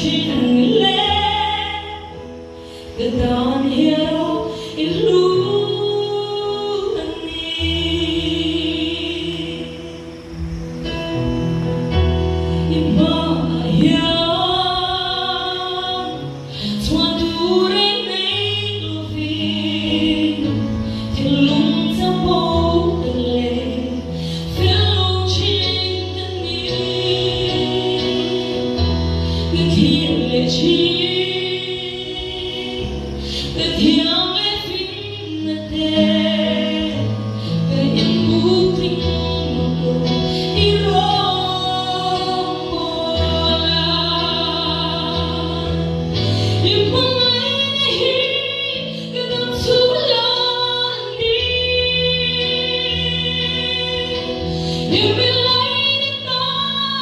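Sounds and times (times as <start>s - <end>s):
woman singing with vibrato: 0.0s - 10.3s, 12.3s - 57.0s.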